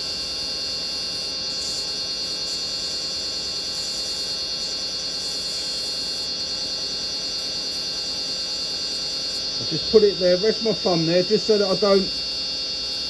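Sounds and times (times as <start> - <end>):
wood lathe whine: 0.0 - 13.0.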